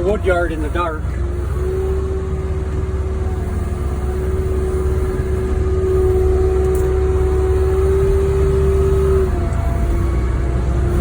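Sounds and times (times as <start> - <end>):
diesel engine rumbling: 0.0 - 11.0
steady whine: 0.0 - 11.0.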